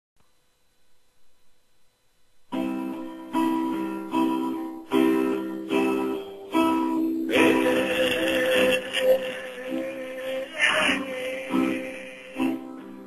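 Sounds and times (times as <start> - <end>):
guitar chords strummed: 2.5 - 13.0.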